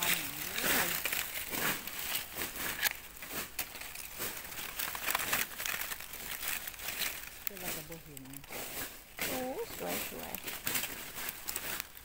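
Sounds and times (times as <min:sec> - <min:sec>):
dry leaves rustling: 0:00.0 - 0:12.0.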